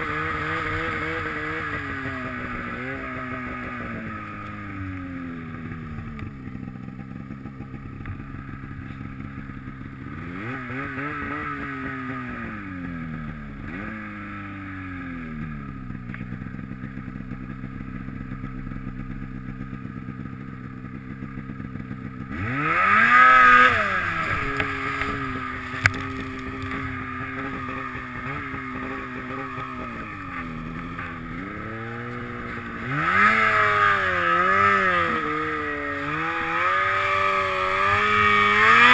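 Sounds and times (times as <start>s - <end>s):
snowmobile engine revving: 0.0s - 20.2s, 20.8s - 38.9s.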